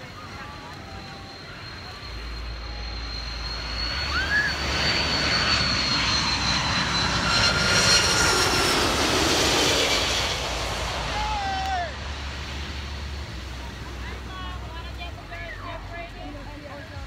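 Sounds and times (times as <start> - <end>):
jet airliner engines whining: 0.0 - 17.0.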